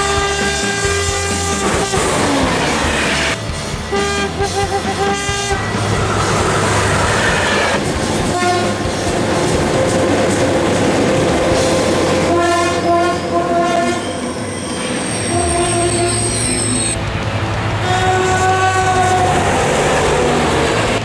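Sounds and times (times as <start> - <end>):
train horns: 0.0 - 14.5, 15.1 - 17.1, 17.7 - 21.0
trains rumbling by: 0.0 - 21.0.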